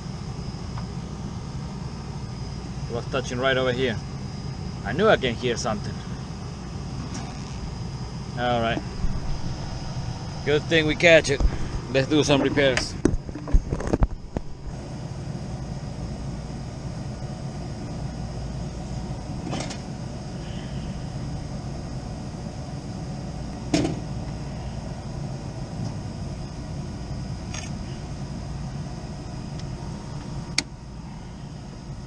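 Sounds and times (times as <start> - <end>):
low machinery hum: 0.0 - 32.0.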